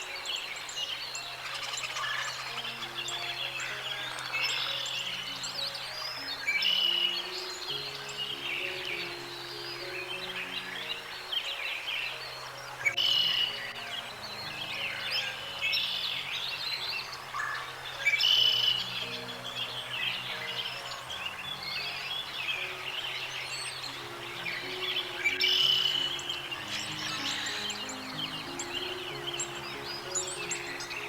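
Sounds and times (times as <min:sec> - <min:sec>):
birds chirping: 0:00.0 - 0:31.0
soft background music: 0:00.0 - 0:31.0.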